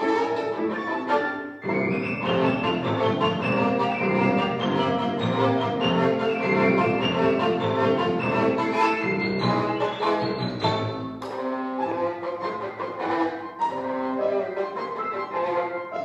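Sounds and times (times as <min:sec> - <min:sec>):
bowed string instrument: 0:00.0 - 0:16.0
grand piano: 0:00.0 - 0:16.0.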